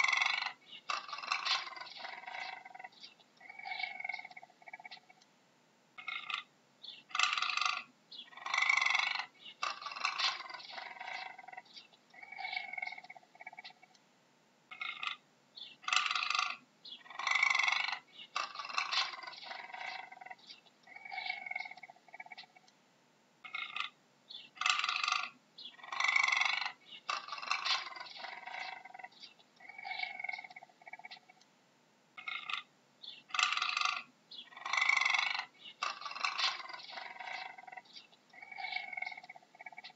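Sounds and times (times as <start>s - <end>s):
puma calling: 0.0s - 5.2s, 6.0s - 13.9s, 14.7s - 22.7s, 23.4s - 31.4s, 32.2s - 39.9s.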